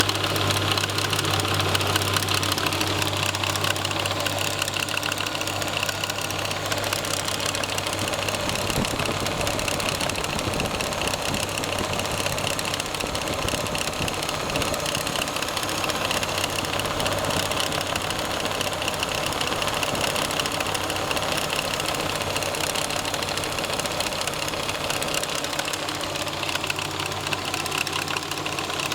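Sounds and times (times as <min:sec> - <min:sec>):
car engine idling: 0:00.0 - 0:28.9
radiator fan rattling: 0:00.0 - 0:28.9.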